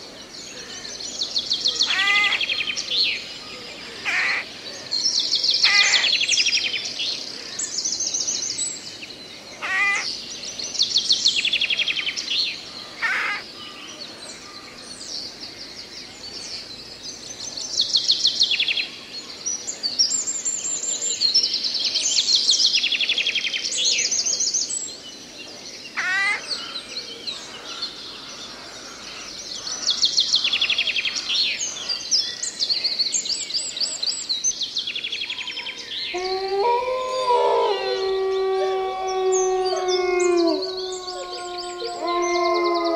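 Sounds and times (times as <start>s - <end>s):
songbirds trilling: 0.0s - 42.9s.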